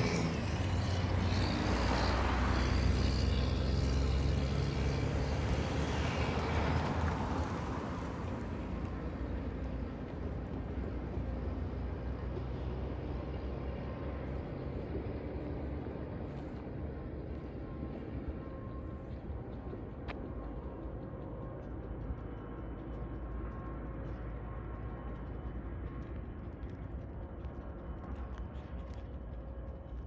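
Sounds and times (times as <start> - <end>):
diesel locomotive engine rumble: 0.0 - 30.0
train rolling rumble: 0.0 - 30.0.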